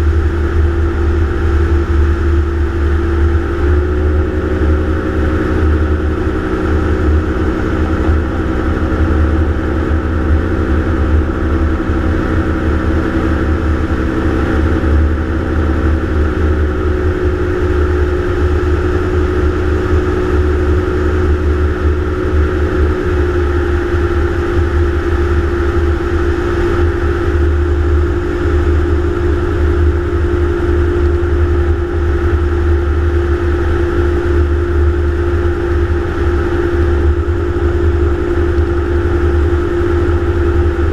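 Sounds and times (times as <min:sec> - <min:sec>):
gyroplane engine and propeller: 0:00.0 - 0:40.9.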